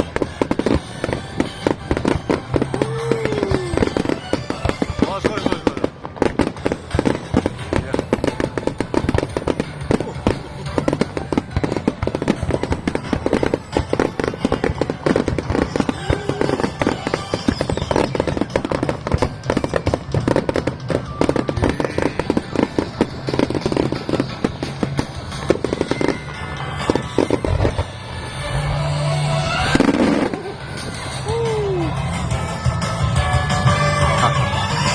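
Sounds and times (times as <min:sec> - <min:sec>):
fireworks cracking and banging: 0:00.0 - 0:34.9.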